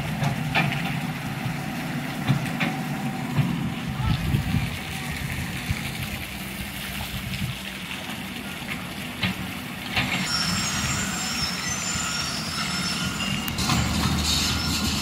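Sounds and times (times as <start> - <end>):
heavy vehicle engine running: 0.0 - 6.6, 9.1 - 15.0
road traffic rumble: 0.0 - 15.0.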